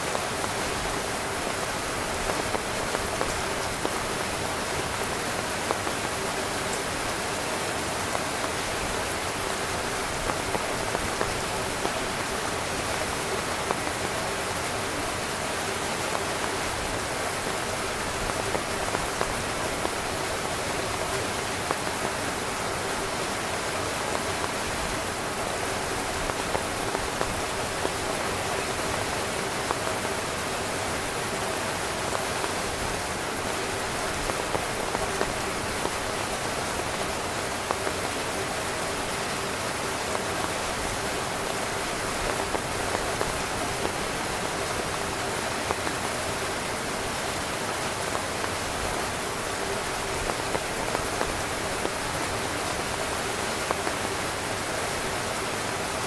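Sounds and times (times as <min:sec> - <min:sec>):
heavy rain on tent fabric: 0:00.0 - 0:56.0.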